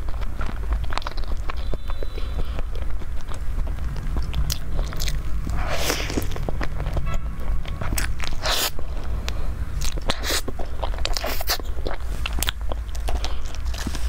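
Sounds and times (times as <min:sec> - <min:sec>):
chewing and crunching cake: 0:00.0 - 0:14.0
wet mouth clicks: 0:00.0 - 0:14.0.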